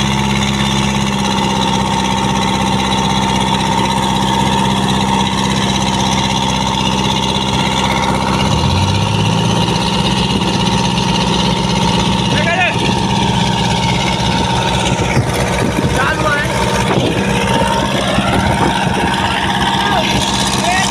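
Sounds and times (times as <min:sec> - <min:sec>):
boat engine running: 0:00.0 - 0:20.9.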